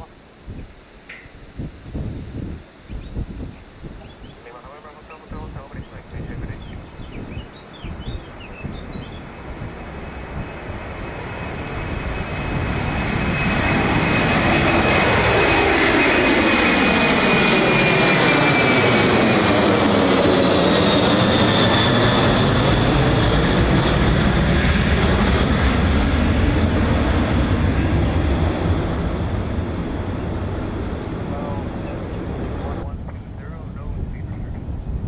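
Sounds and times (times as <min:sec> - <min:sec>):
high engine whine: 0:00.0 - 0:35.0
jet engines roaring overhead: 0:00.0 - 0:35.0.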